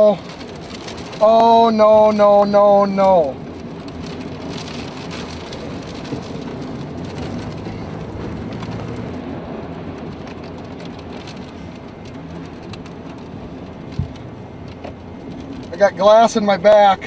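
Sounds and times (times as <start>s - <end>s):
rain and debris ticking on vehicle: 0.0s - 17.0s
roar of wind and rain: 0.0s - 17.0s.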